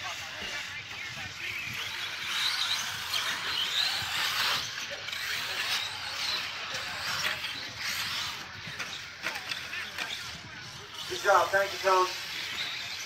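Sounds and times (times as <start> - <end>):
rc truck motors whirring: 0.0 - 13.0.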